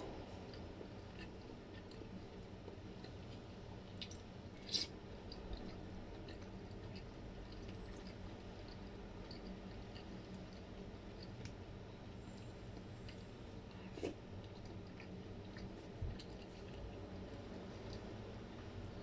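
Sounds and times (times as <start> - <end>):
wet chewing mouth sounds: 0.0 - 11.6, 12.7 - 18.2.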